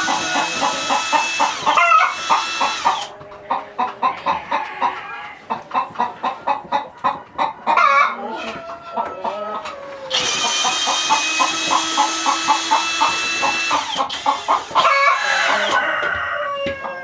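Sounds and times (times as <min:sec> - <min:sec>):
chickens clucking: 0:00.0 - 0:17.0
wavering chicken squawk: 0:00.0 - 0:17.0.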